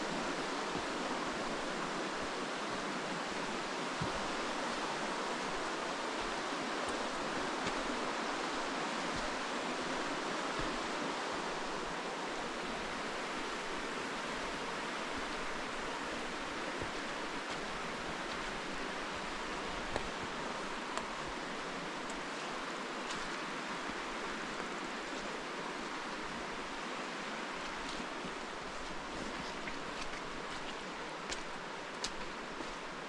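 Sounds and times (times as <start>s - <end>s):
soft footsteps on trail: 0.0s - 33.0s
stream water rushing: 0.0s - 33.0s.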